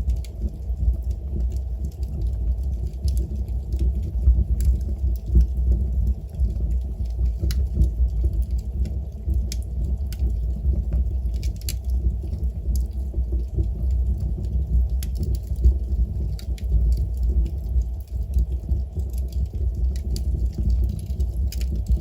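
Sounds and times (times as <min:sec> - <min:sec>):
burning wood crackling and popping: 0:00.0 - 0:22.0
rumble of fireplace flames: 0:00.0 - 0:22.0.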